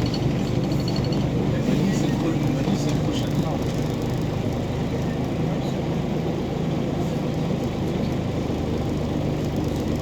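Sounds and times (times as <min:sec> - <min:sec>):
bus diesel engine humming: 0:00.0 - 0:10.0
road and cabin noise: 0:00.0 - 0:10.0.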